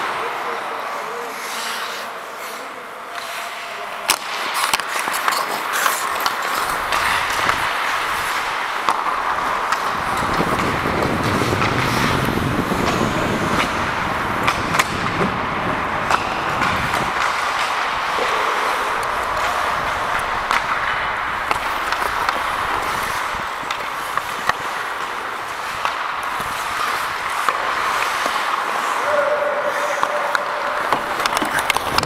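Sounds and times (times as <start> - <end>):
hockey sticks and puck clicks: 0.0 - 32.0
skates scraping ice: 0.0 - 32.0.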